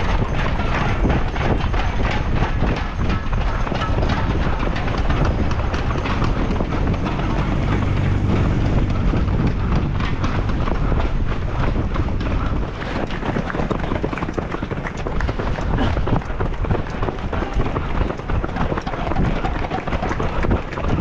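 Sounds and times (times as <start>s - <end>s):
running footsteps on road: 0.0s - 21.0s
wind rumbling on microphone: 0.0s - 21.0s.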